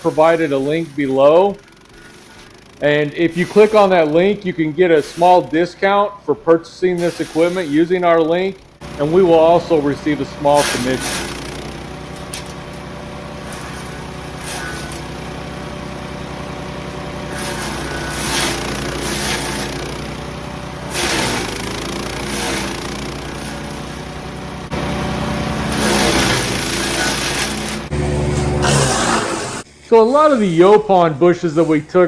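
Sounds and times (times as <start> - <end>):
branches shredding: 0.0 - 29.6
wood chipper engine running: 0.0 - 29.7.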